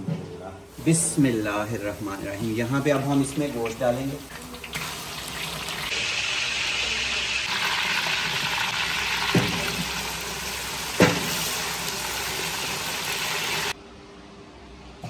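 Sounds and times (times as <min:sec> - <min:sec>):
meat sizzling in hot oil: 0:00.8 - 0:13.8.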